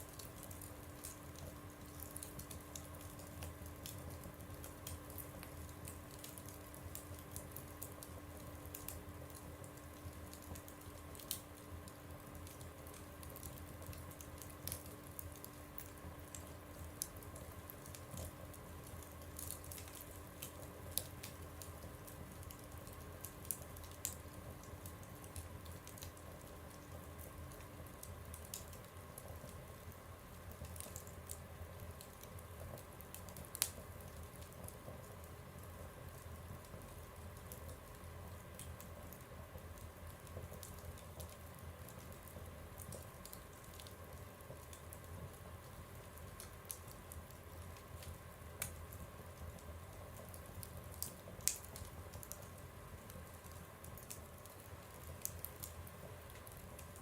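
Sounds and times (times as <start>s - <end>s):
wood fire crackling in a stove: 0.0s - 57.0s.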